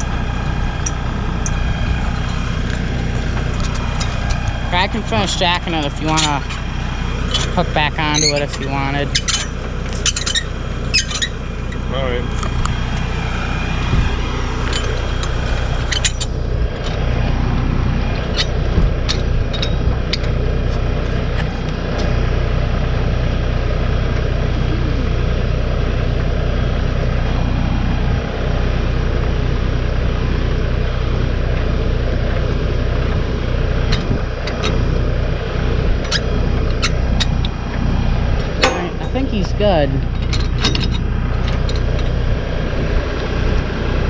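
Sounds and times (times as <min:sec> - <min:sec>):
pickup truck engine idling: 0:00.0 - 0:44.0.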